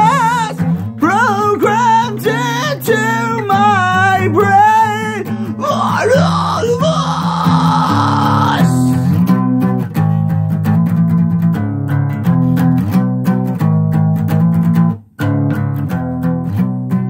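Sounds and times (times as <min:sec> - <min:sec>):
guitar picking over bass: 0:00.0 - 0:17.0.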